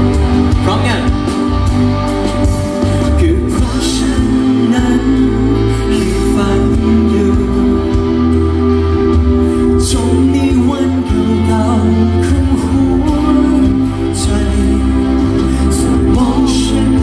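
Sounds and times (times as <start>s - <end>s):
live band playing pop ballad: 0.0s - 17.0s
person singing: 2.1s - 17.0s.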